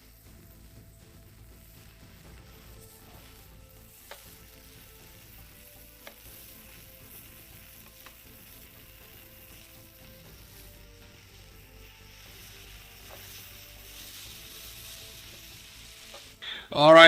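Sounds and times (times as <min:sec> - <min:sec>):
food sizzling on a grill: 0:00.0 - 0:17.0.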